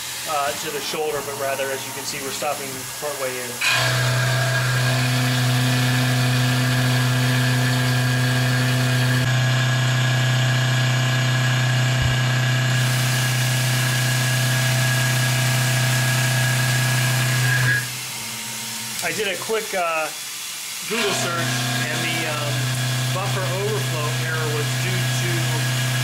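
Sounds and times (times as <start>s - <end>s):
milling machine cutting steel: 0.0s - 26.0s.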